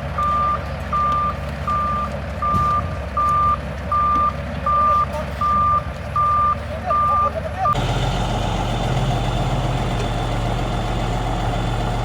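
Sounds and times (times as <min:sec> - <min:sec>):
diesel engine rumble: 0:00.0 - 0:12.0.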